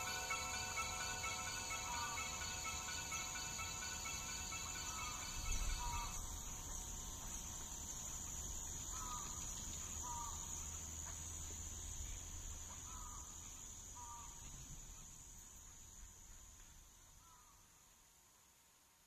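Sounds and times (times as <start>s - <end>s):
crickets trilling: 0.0s - 17.7s.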